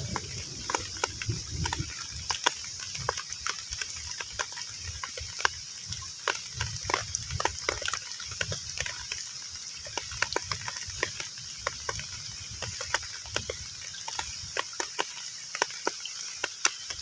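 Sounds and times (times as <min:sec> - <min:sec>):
heavy rain hissing on a pond: 0:00.0 - 0:17.0.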